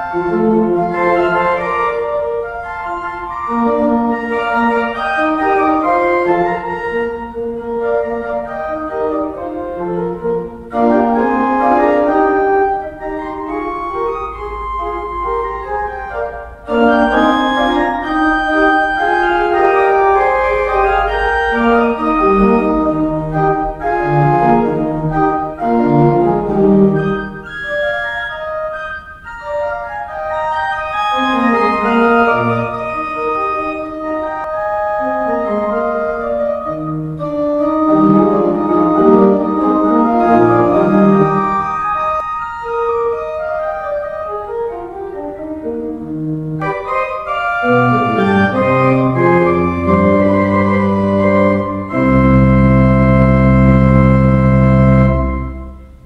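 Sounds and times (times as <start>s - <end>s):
deep organ pedal notes: 0.0s - 56.0s
pipe organ playing chords: 0.0s - 56.0s.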